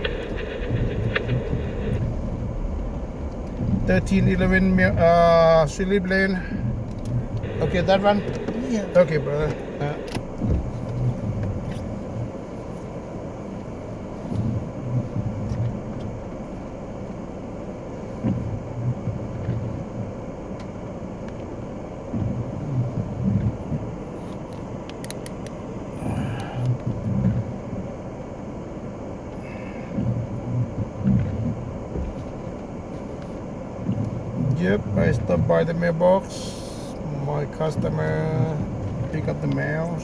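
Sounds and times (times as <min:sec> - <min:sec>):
taxi engine idling: 0:00.0 - 0:40.0.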